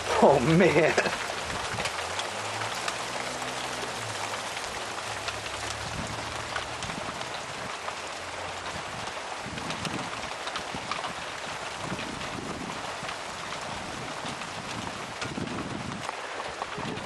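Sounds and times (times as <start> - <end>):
hail falling: 0.0 - 17.0.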